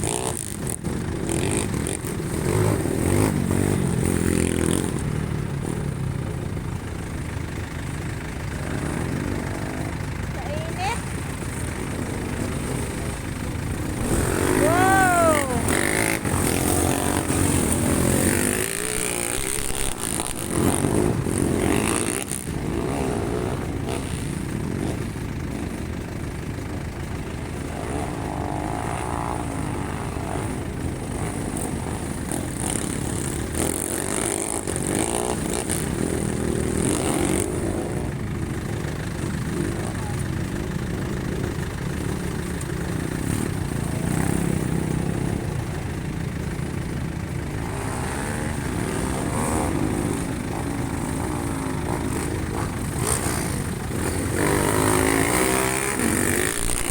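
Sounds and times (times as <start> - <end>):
racing motorcycles passing: 0.0 - 56.9.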